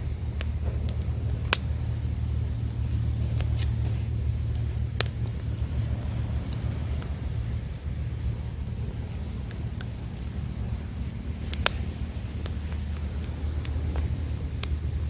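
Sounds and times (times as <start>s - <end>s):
campfire crackling: 0.0s - 15.0s
fire popping: 0.0s - 15.0s
steady low rumble: 0.0s - 15.0s.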